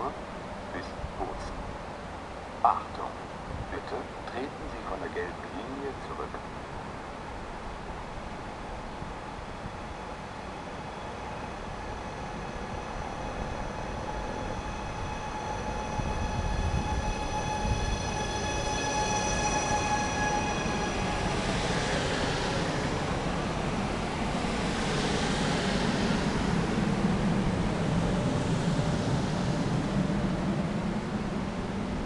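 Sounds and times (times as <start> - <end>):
electric train whine: 0.0 - 32.0
train cars rumbling past: 0.0 - 32.0.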